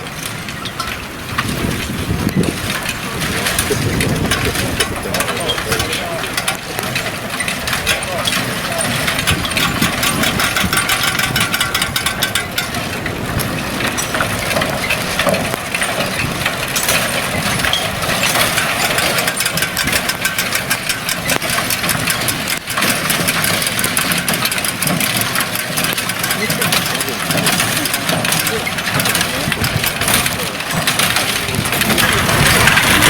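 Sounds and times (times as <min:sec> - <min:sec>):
engine running at low speed: 0:00.0 - 0:33.0
machinery clatter: 0:00.0 - 0:33.0.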